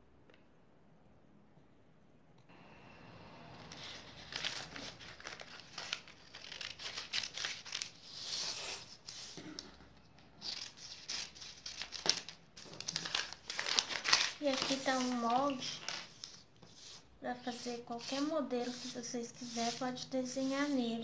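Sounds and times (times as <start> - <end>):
paper crinkling and rustling: 3.7 - 20.8.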